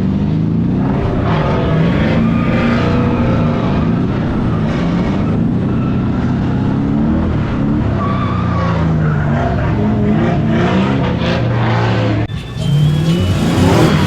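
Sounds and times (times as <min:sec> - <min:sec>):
car engine revving hard: 0:00.0 - 0:14.0
tyres squealing and skidding: 0:00.7 - 0:14.0.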